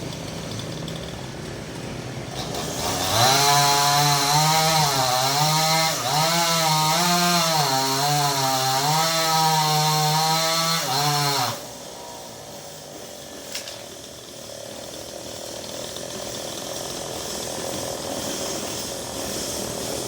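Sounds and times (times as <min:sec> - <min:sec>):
chainsaw cutting branches: 0:00.0 - 0:20.0.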